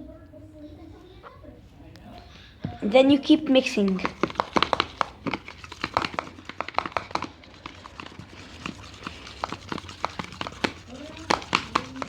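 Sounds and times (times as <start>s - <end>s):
utensil stirring thick paste: 1.9s - 12.0s.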